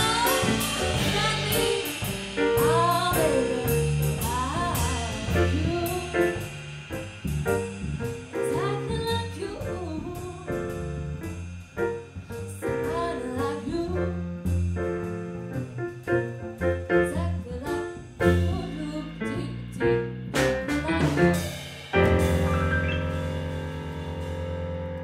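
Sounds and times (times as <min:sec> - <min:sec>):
jazz combo playing: 0:00.0 - 0:25.0.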